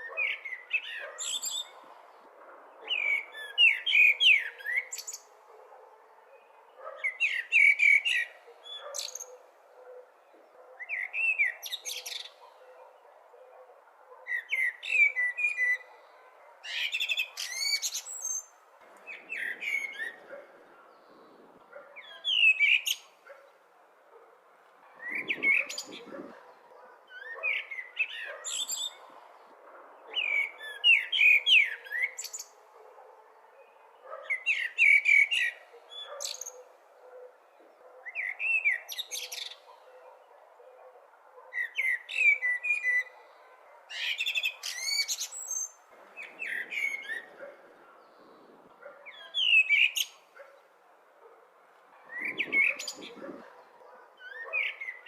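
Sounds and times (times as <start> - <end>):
blackbird singing: 0.0 - 2.2, 2.8 - 23.6, 24.9 - 29.2, 30.0 - 32.6, 33.5 - 50.6, 52.0 - 55.0.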